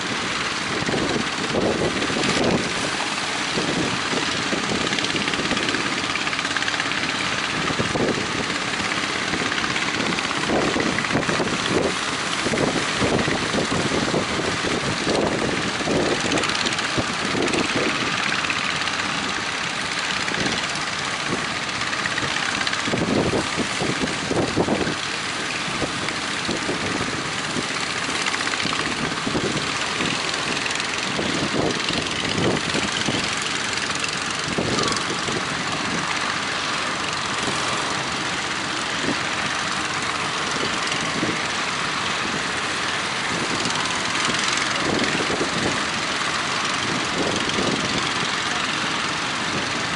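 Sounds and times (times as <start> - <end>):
boat engines running: 0.0 - 49.9
wind hiss: 0.0 - 49.9.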